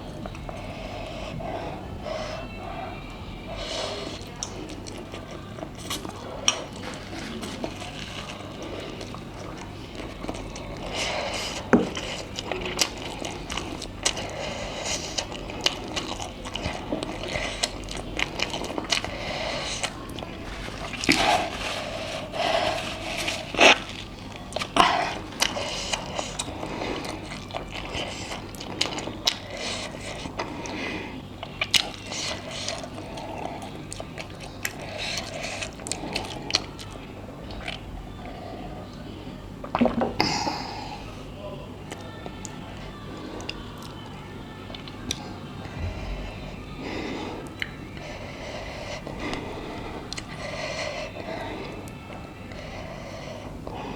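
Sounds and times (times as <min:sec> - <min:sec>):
noodles being chewed and slurped: 0:00.0 - 0:41.2, 0:41.8 - 0:53.9.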